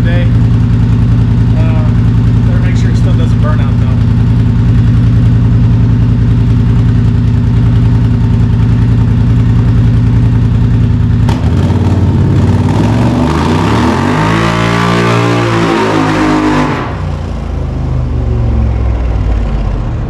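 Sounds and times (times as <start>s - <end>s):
engine idling: 0.0s - 14.3s, 16.7s - 20.0s.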